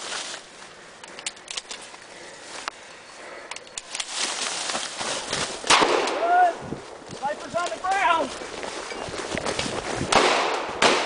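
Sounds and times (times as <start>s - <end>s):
rustling through cattails: 0.0s - 10.5s.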